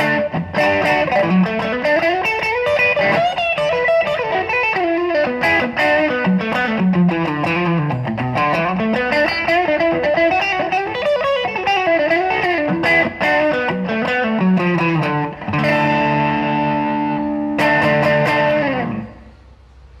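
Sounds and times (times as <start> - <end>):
distorted electric guitar: 0.0 - 19.3.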